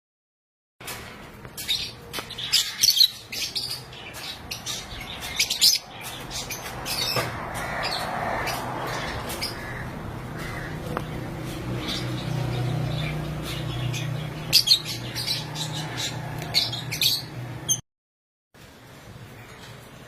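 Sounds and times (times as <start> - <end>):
birds chirping and squawking: 0.8 - 17.8.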